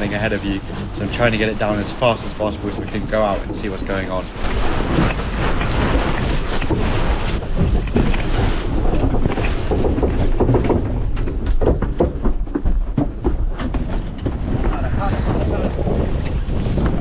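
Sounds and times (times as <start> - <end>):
sailcloth rustling and knocking: 0.0 - 17.0
wind rumble on microphone: 0.0 - 17.0.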